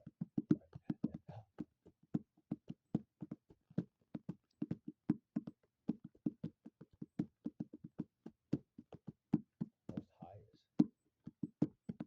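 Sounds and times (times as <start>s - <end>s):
hands tapping a surface: 0.0s - 10.2s, 10.8s - 12.0s.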